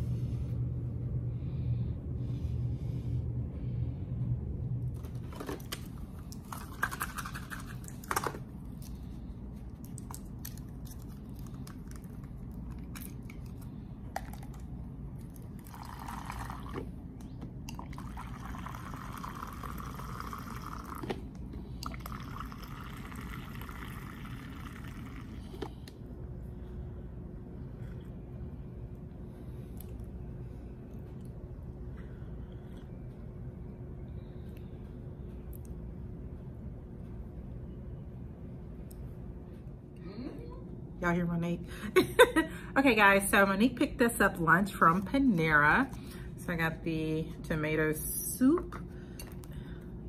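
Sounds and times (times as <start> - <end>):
low hum: 0.0 - 42.8.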